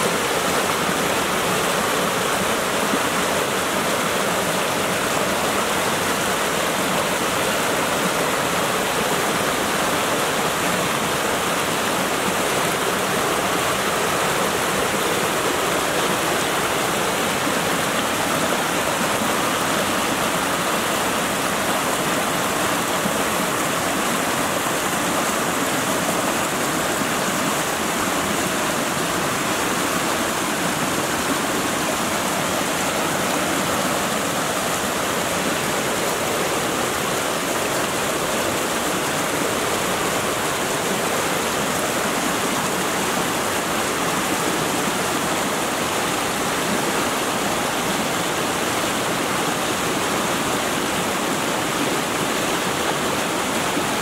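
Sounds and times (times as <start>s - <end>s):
stream splashing over stones: 0.0s - 54.0s.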